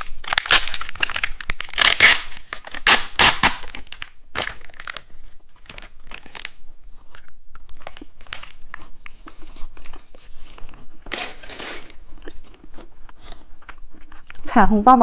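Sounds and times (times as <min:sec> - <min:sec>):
plastic wrapper tearing and crinkling: 0:00.0 - 0:12.5.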